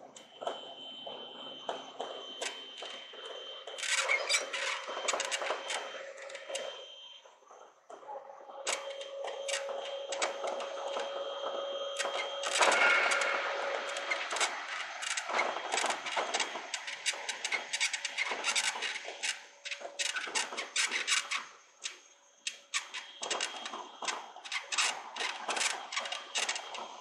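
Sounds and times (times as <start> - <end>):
electric train whine: 0.0 - 27.0.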